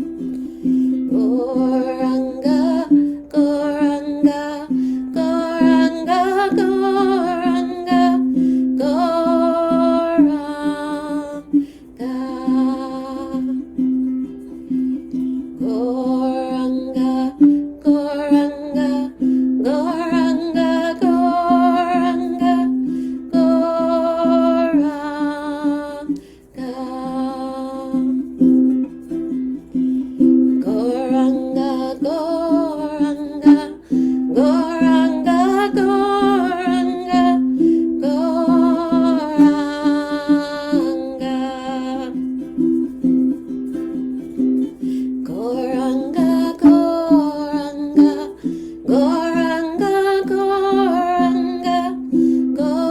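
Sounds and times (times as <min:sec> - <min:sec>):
strummed string instrument: 0:00.0 - 0:52.9
woman singing: 0:00.0 - 0:52.9.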